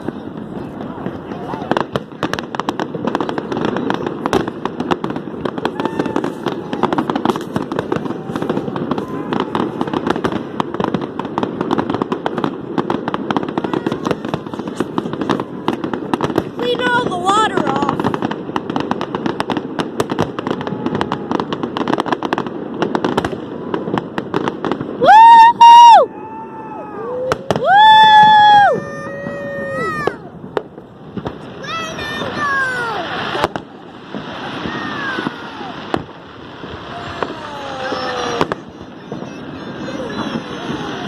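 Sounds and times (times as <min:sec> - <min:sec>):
fireworks bangs and pops: 0:00.0 - 0:41.0.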